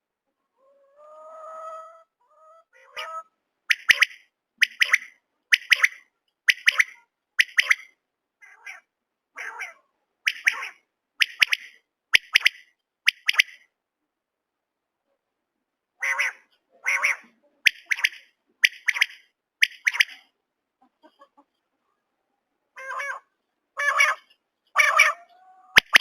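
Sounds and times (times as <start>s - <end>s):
quail calling: 0.6s - 13.6s, 16.0s - 21.5s, 22.8s - 26.0s.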